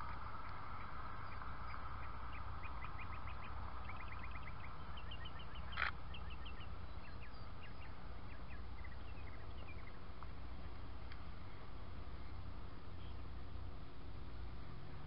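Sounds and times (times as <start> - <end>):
birds chirping: 0.0 - 13.9
background hiss: 0.0 - 15.0.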